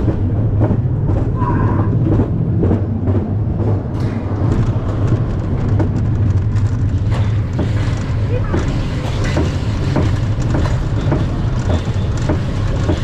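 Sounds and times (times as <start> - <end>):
roller coaster hum and rumble: 0.0 - 13.0
roller coaster track clicks: 0.0 - 13.0.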